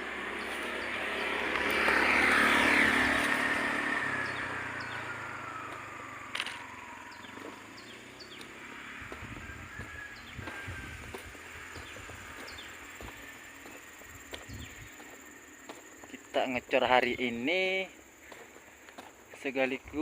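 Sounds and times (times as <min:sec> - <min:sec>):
motor vehicle passing by: 0:00.0 - 0:19.9.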